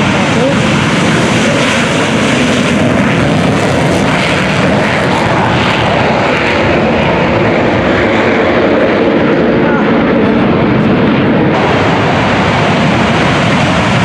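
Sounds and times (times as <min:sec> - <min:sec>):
military aircraft engines overhead: 0:00.0 - 0:14.0.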